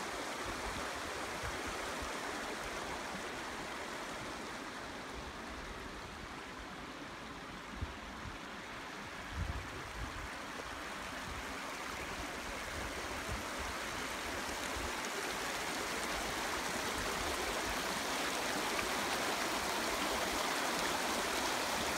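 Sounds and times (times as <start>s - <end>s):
river rushing over stones: 0.0s - 21.9s.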